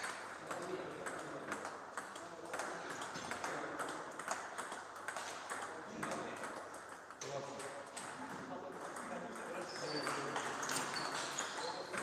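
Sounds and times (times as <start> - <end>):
table tennis balls clicking: 0.0 - 12.0.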